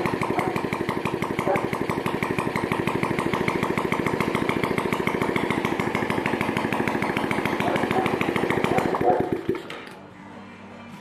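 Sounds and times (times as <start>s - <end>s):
motorcycle engine idling: 0.0s - 10.2s.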